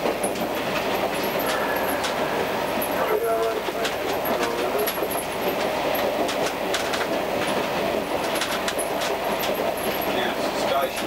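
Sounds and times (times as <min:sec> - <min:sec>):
wheels clicking over rail joints: 0:00.0 - 0:02.2, 0:02.8 - 0:11.0
railcar running noise: 0:00.0 - 0:11.0.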